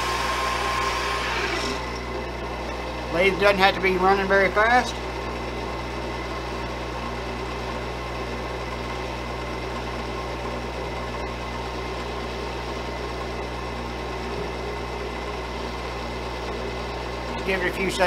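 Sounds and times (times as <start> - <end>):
lathe motor humming: 0.0 - 18.0.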